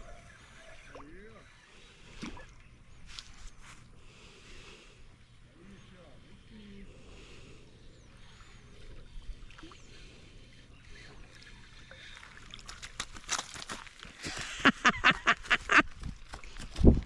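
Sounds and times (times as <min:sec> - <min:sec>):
water lapping: 0:00.0 - 0:16.7.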